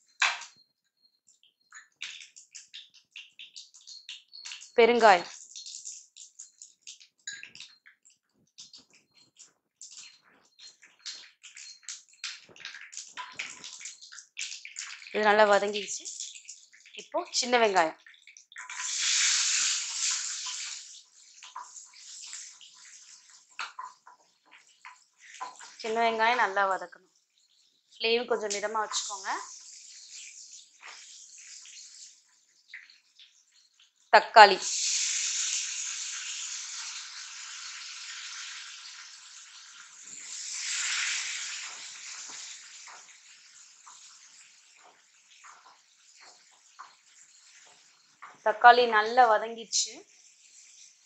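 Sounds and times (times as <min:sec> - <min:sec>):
oil crackling and popping: 0:00.0 - 0:48.5, 0:50.0 - 0:51.0
shallots sizzling in hot oil: 0:09.8 - 0:51.0.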